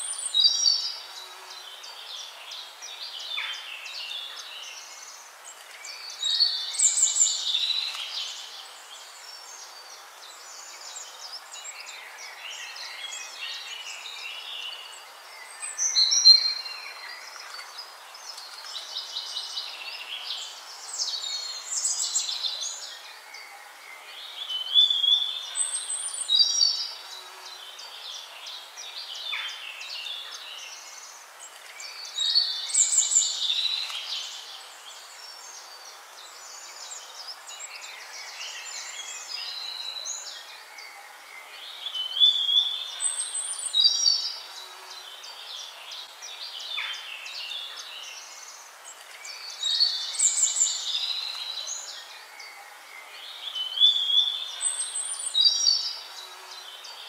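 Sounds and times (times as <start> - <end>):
birds chirping and trilling: 0.0 - 57.0
faint steady hiss: 0.0 - 57.0.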